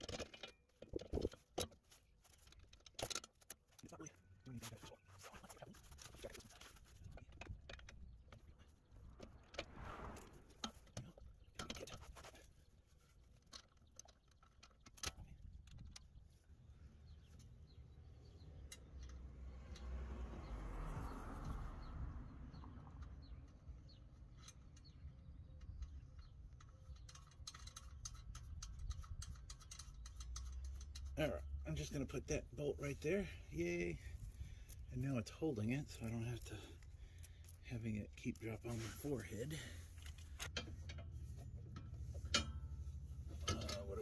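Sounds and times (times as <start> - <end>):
faint metal clicks and knocks: 0.0 - 9.6, 10.6 - 19.9, 22.9 - 32.4, 33.8 - 44.0.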